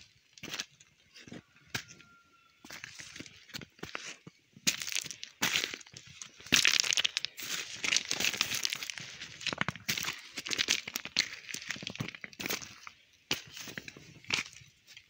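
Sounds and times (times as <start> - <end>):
footsteps crunching on gritty road: 0.0 - 15.0.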